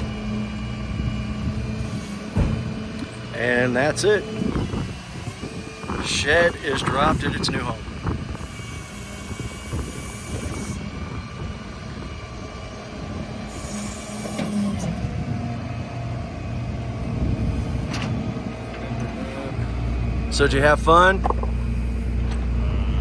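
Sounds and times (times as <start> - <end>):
tow truck engine running: 0.0 - 23.0.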